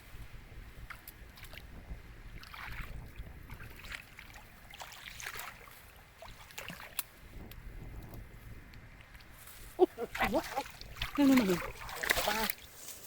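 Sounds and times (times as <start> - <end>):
water splashing and sloshing: 0.2 - 13.0.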